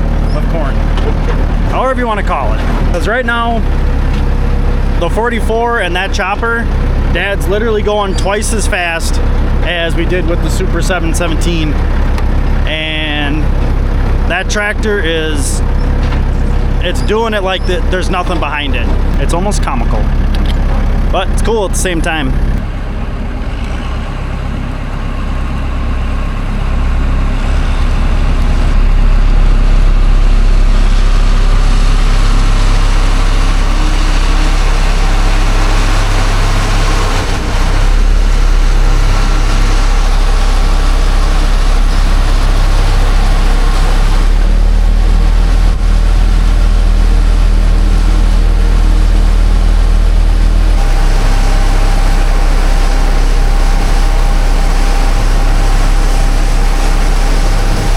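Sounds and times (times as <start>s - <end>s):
tractor engine running under load: 0.0s - 57.9s.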